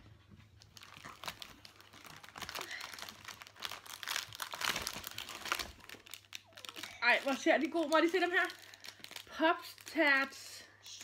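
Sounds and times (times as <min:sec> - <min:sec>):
plastic wrappers crinkling: 0:00.5 - 0:10.5.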